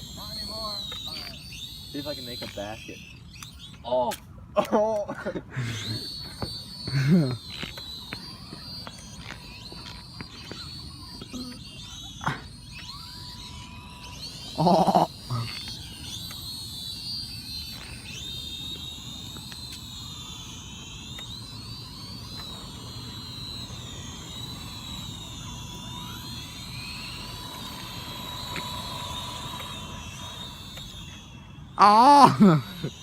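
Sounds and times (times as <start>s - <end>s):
toy drone motors whining: 0.0s - 33.0s.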